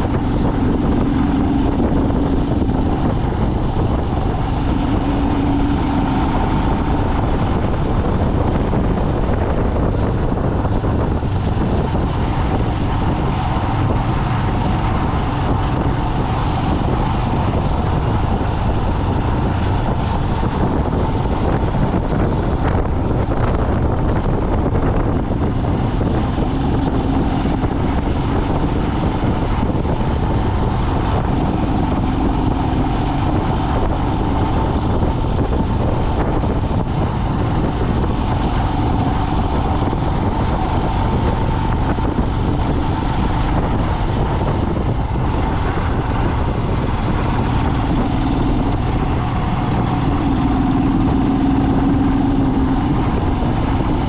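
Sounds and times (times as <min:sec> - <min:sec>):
vehicle engine and tyre noise: 0:00.0 - 0:54.0
wind on microphone: 0:00.0 - 0:54.0.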